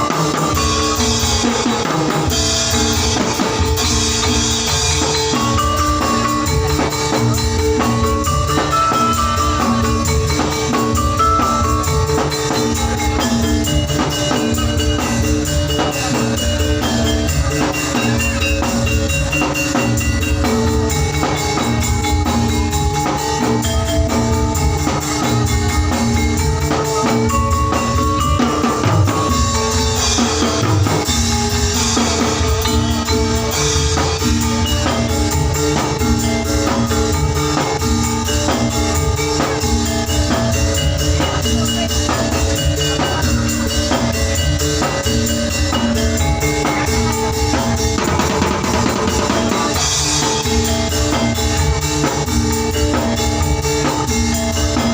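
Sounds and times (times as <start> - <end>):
wooden and bamboo percussion music: 0.0 - 54.9.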